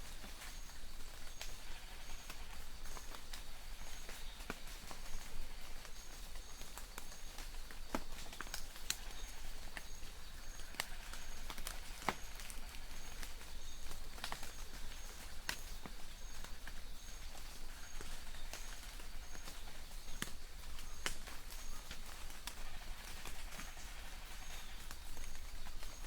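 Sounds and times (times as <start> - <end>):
light rain on leaves: 0.0 - 26.0.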